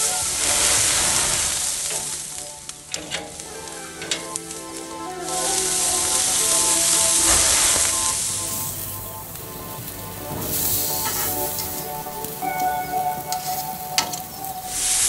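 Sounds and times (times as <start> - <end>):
vegetables sizzling on a grill: 0.0 - 2.4, 3.3 - 15.0
sharp crackles: 0.0 - 15.0
soft background music: 0.0 - 15.0.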